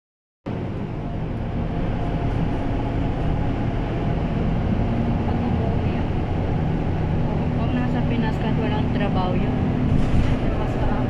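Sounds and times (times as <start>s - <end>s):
vehicle engine and tyre rumble: 0.5s - 11.0s.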